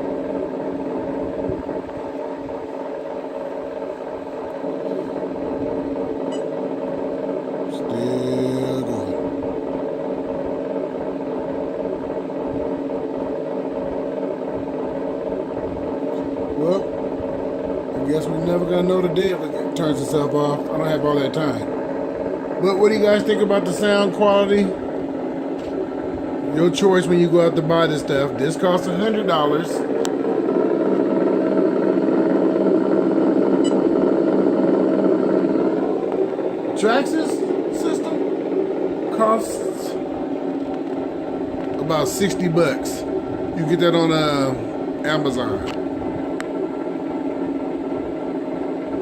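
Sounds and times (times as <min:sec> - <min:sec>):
simulated engine idle hum: 0:00.0 - 0:49.0.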